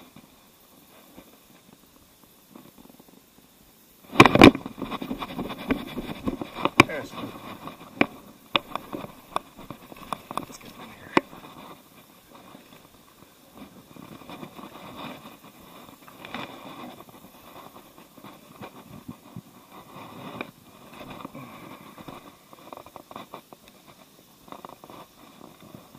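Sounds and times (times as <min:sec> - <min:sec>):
rustling through plants: 0:00.0 - 0:25.9.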